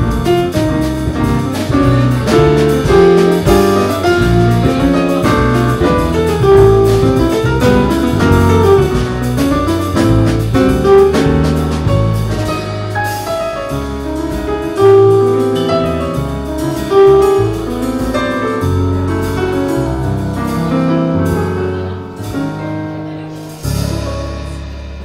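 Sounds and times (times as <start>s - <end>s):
bass line: 0.0s - 25.0s
jazz piano: 0.0s - 25.0s.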